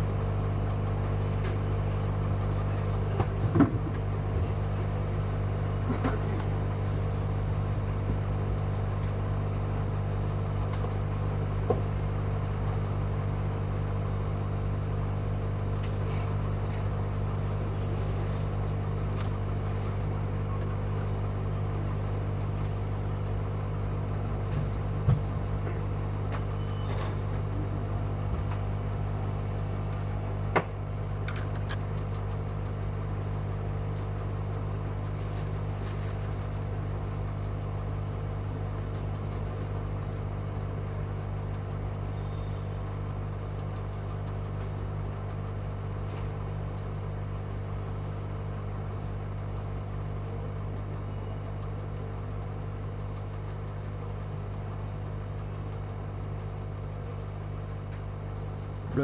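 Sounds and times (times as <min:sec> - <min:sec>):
hot-air blower humming: 0:00.0 - 0:49.7.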